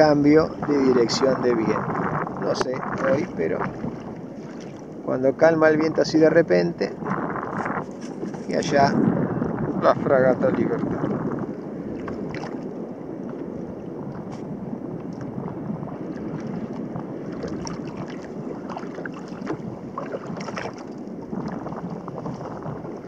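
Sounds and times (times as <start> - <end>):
small waves lapping against hull: 0.0 - 23.0
wind on microphone: 0.0 - 23.0.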